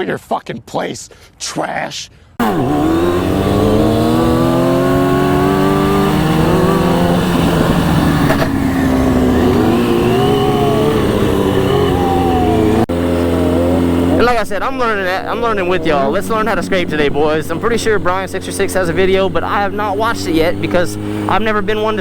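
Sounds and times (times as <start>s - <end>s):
motorcycle engine revving: 2.4s - 22.0s.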